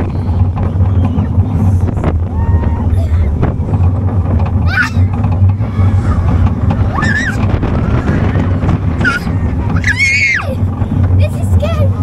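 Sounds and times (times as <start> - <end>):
rising squeals: 0.0 - 10.9
amusement ride rumble: 0.0 - 12.0
wind buffeting microphone: 0.0 - 12.0.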